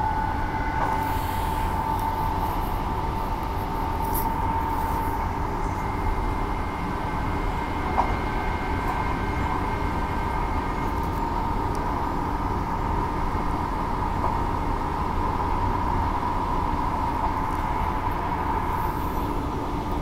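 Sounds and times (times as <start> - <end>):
continuous motor whine: 0.0 - 20.0
train interior rumble: 0.0 - 20.0.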